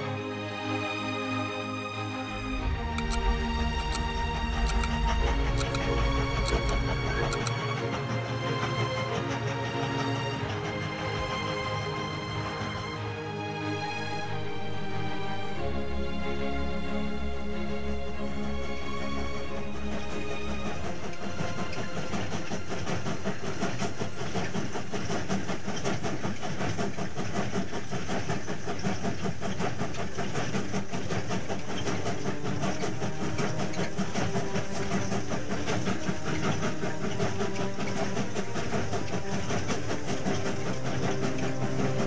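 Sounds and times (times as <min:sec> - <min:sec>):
steam locomotive chuffing: 0:00.0 - 0:42.0
steady steam hiss: 0:02.0 - 0:42.0.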